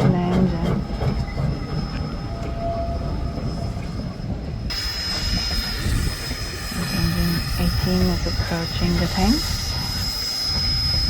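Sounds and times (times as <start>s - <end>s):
steam locomotive rumbling: 0.0s - 11.0s.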